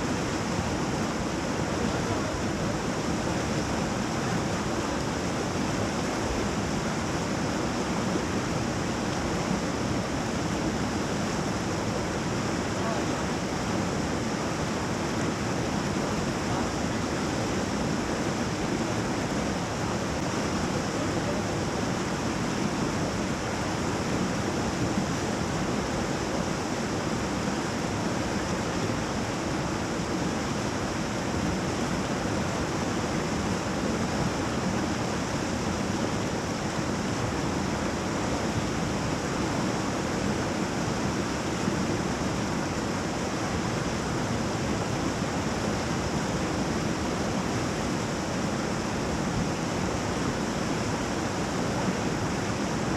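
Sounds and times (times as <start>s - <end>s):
river rapid rushing: 0.0s - 52.9s.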